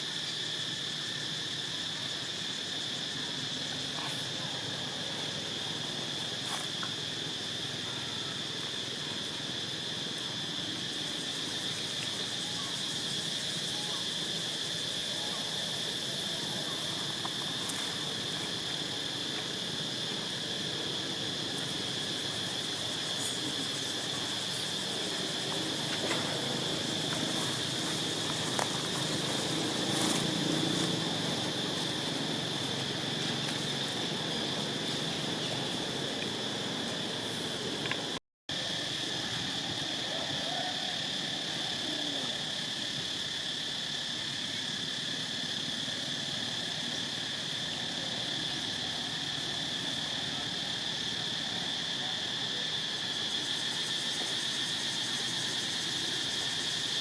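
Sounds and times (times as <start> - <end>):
insect chorus drone: 0.0 - 57.0
outdoor background hiss: 0.0 - 57.0.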